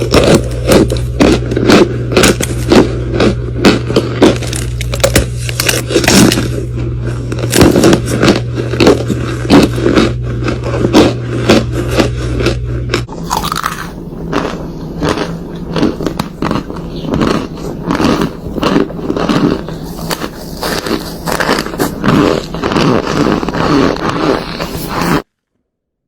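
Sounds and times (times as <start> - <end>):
low hum: 0.0 - 25.2
crunchy chewing: 0.0 - 25.3.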